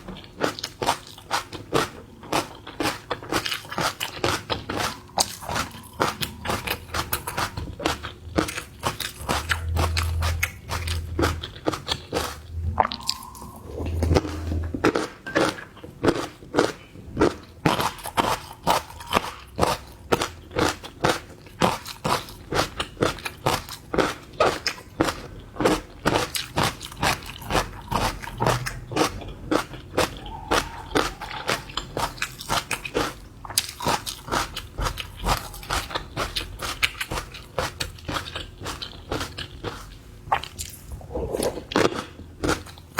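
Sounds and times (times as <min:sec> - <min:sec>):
wet chewing clicks: 0:00.1 - 0:42.9.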